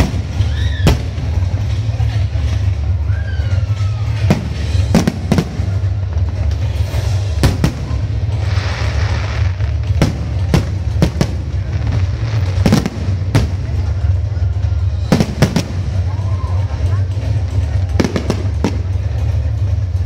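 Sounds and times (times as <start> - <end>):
fireworks bursting bangs: 0.0 - 3.0, 3.7 - 20.0
low rumble: 0.0 - 20.0.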